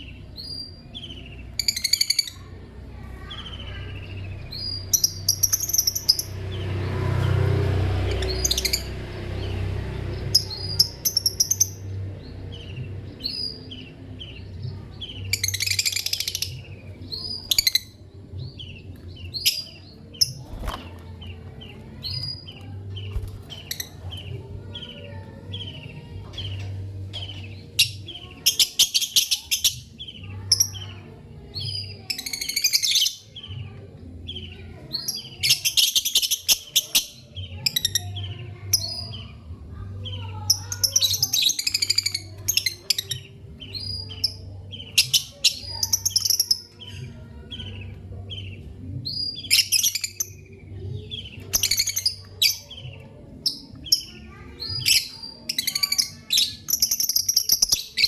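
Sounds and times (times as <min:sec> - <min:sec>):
harsh bird chatter: 0:00.0 - 0:58.0
lovebirds chirping: 0:00.0 - 0:58.0.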